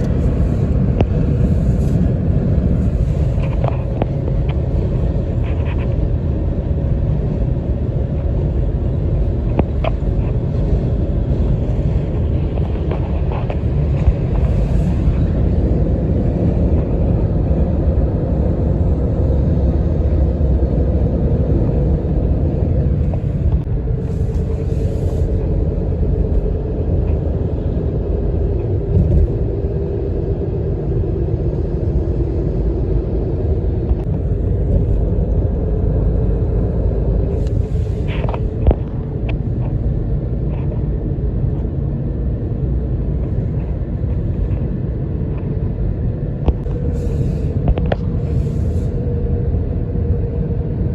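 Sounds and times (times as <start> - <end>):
engine and road rumble: 0.0 - 50.9.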